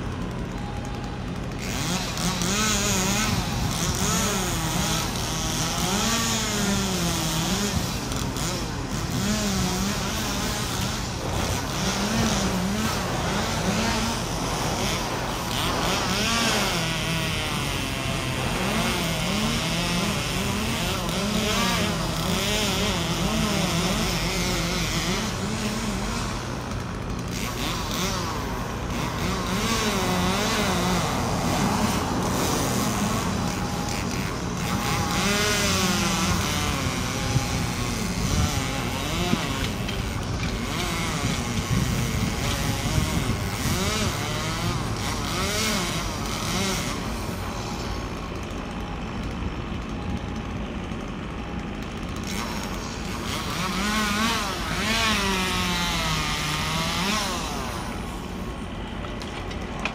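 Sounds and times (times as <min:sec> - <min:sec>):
constant low hum: 0:00.0 - 0:59.9
engine running with wavering pitch: 0:00.0 - 0:59.9.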